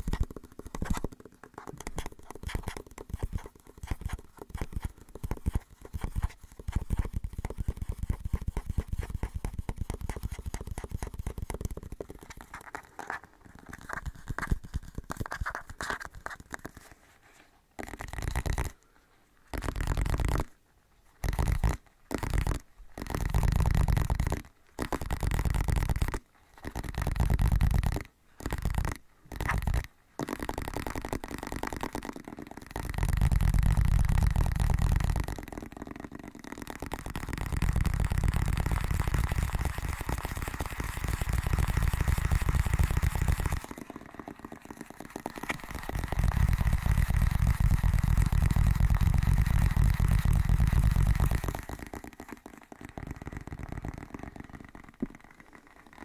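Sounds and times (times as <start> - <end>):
rubbing against microphone: 0.0 - 18.8, 19.4 - 56.0.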